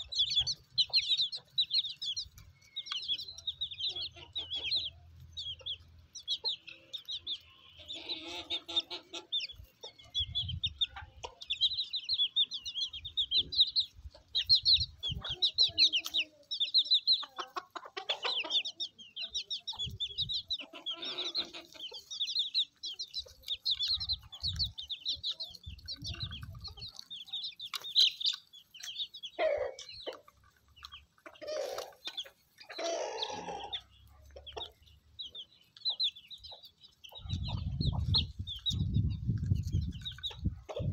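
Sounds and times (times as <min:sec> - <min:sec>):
chickens clucking: 0:00.0 - 0:40.9
chicks peeping: 0:00.0 - 0:40.9.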